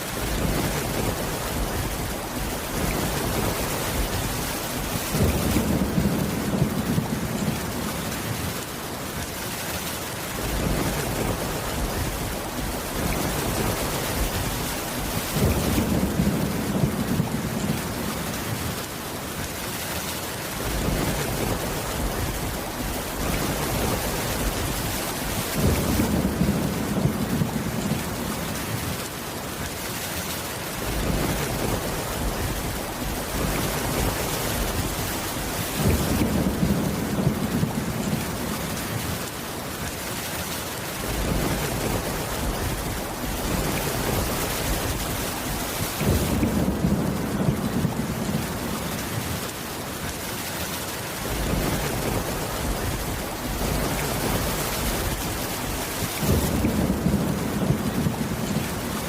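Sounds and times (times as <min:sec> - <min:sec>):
thunder rumbling: 0:00.0 - 0:08.7, 0:10.4 - 0:19.5, 0:20.5 - 0:29.1, 0:30.8 - 0:39.4, 0:41.0 - 0:49.6, 0:51.2 - 0:59.0
steady rain: 0:00.0 - 0:59.0.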